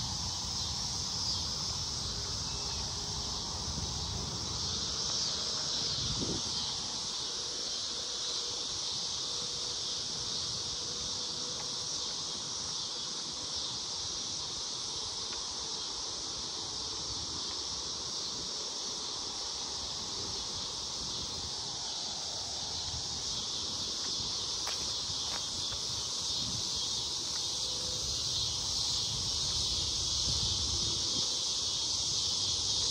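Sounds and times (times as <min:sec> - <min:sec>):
insects buzzing: 0:00.0 - 0:32.9.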